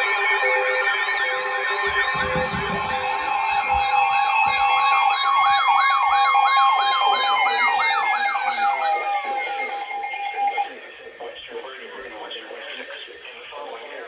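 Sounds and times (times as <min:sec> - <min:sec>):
wailing electronic siren: 0:00.0 - 0:12.0.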